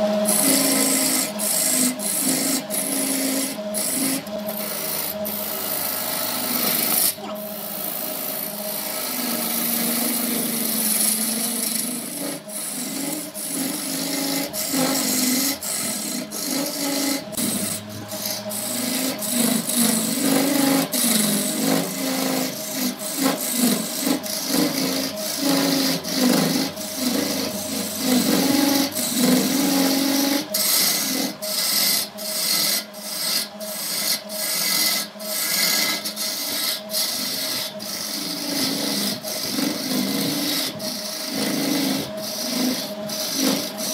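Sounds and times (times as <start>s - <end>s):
turning tool scraping wood: 0.0s - 43.9s
wood lathe humming: 0.0s - 43.9s.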